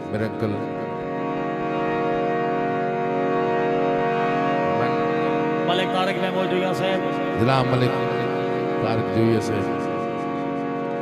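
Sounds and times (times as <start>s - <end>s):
harmonium chord: 0.0s - 11.0s.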